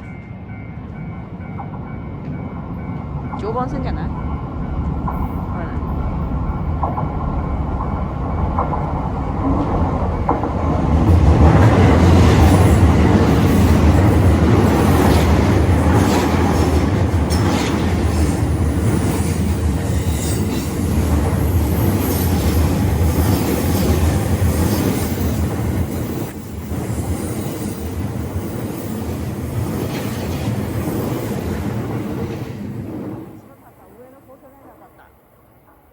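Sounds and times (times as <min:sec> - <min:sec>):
train wheels on rails: 0:00.0 - 0:35.1.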